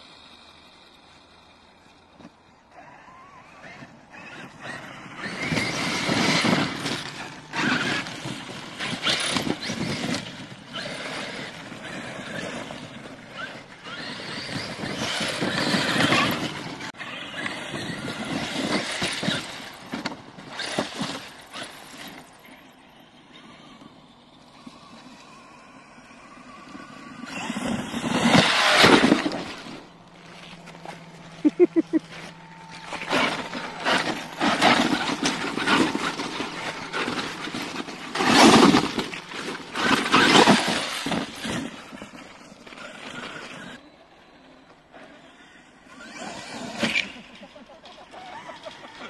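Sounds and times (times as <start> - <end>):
rc truck motor whining: 0.0 - 49.0
tyres churning sand: 0.0 - 49.0.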